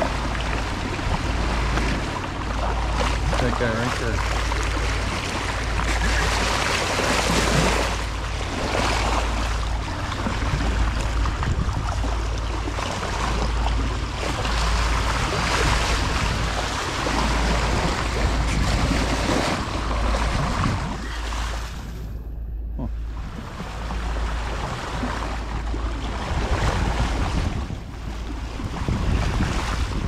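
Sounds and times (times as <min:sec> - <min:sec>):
water washing along boat bow: 0:00.0 - 0:30.0
wind rumbling on microphone: 0:00.0 - 0:30.0.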